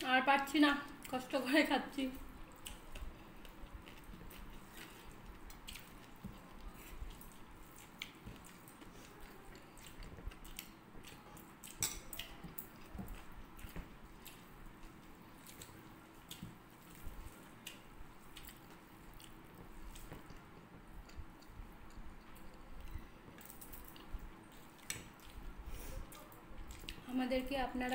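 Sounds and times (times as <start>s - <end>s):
people chewing: 2.4s - 27.0s.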